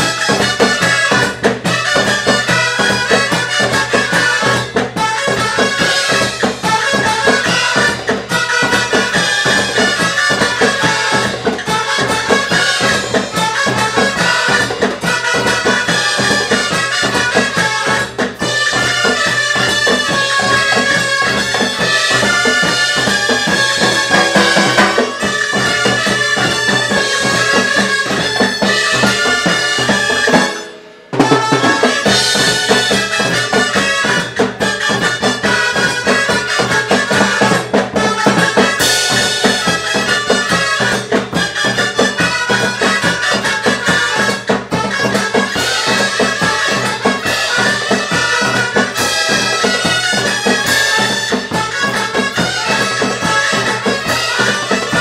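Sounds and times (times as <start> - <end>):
drum kit and percussion: 0.0 - 55.0
shawm band playing: 0.0 - 55.0.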